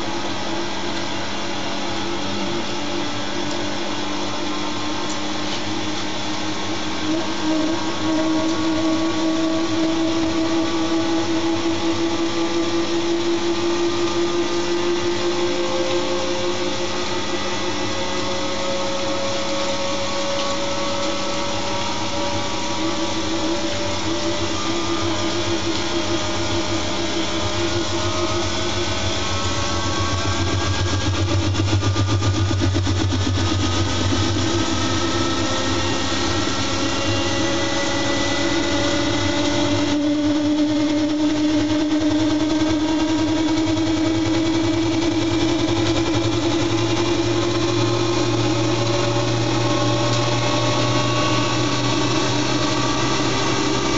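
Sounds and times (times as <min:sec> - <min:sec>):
washing machine drum spinning: 0:00.0 - 0:53.9.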